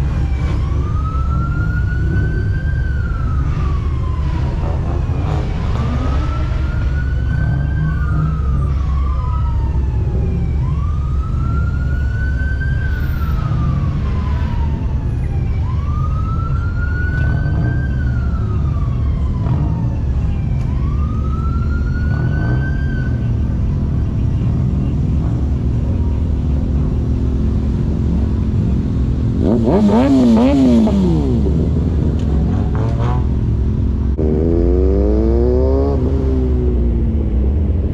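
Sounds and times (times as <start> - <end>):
emergency vehicle siren wailing: 0.0 - 37.9.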